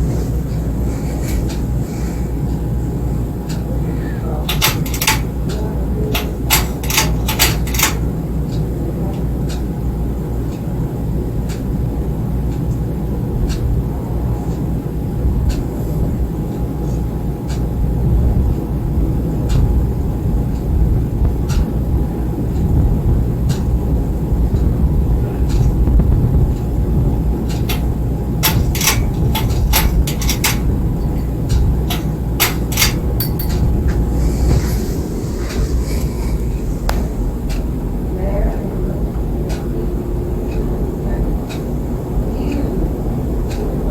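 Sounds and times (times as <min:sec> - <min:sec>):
ceiling fan running: 0:00.0 - 0:43.9.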